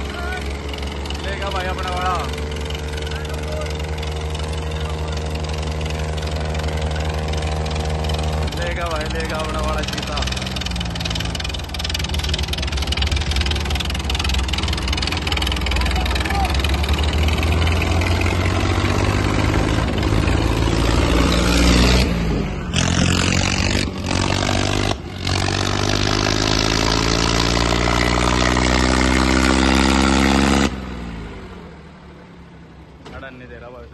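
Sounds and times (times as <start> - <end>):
diesel tractor engine under load: 0.0 - 33.9.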